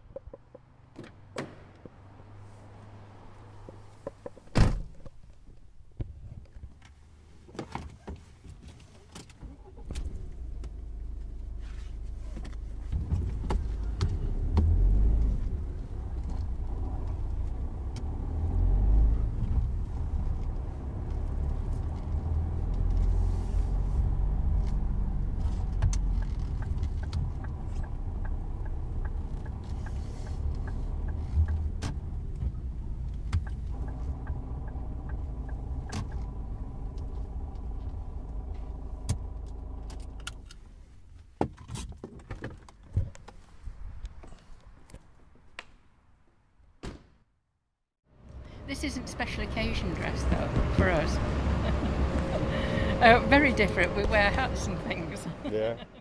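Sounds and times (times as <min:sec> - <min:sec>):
motor vehicle rumble: 0:00.0 - 0:07.5, 0:08.2 - 0:46.7, 0:47.8 - 0:56.0.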